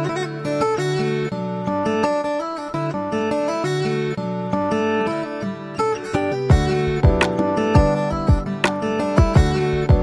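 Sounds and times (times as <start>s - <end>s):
plucked guitar chords: 0.0s - 10.0s.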